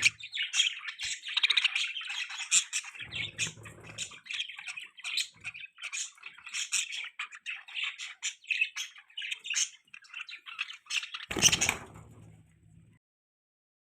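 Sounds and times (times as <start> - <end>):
budgie chirping and squawking: 0.0 - 11.8.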